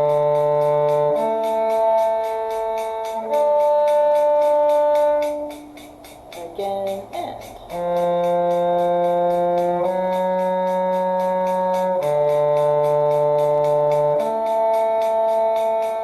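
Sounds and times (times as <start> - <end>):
faint steady ticking: 0.0 - 16.0
sustained held notes: 0.0 - 16.0.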